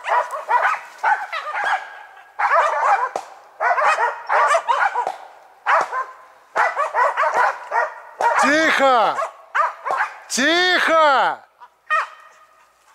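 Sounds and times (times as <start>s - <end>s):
dog barking: 0.0s - 10.3s, 11.6s - 12.8s.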